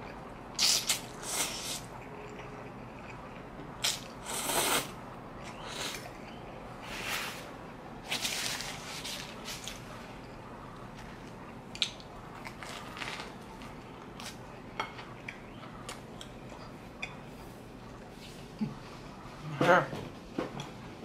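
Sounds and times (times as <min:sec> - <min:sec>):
wet chewing of spaghetti: 0:00.0 - 0:18.8.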